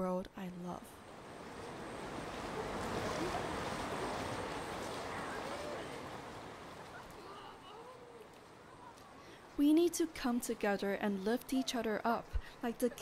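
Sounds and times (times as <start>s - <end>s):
rushing outdoor noise: 0.4s - 13.0s.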